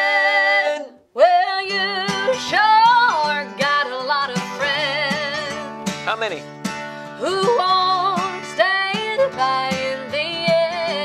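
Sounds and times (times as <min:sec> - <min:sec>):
woman singing wordless run: 0:00.0 - 0:05.7, 0:07.2 - 0:11.0
picked acoustic guitar: 0:00.0 - 0:11.0.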